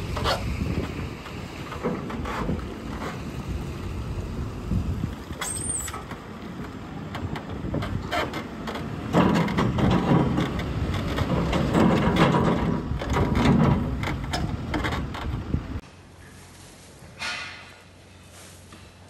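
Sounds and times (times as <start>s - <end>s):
diesel engine under load: 0.0s - 16.1s.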